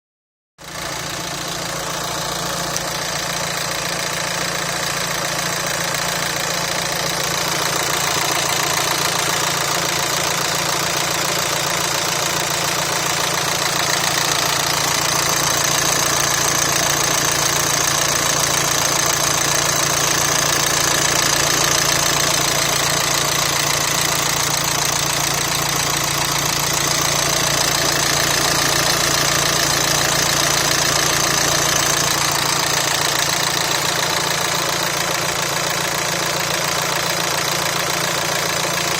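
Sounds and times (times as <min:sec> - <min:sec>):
engine idling: 0:00.6 - 0:38.9.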